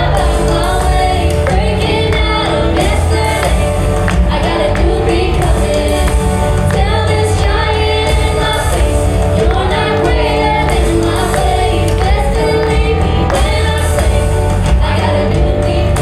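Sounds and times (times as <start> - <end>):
instrumental accompaniment: 0.0 - 16.0
people singing: 0.0 - 16.0.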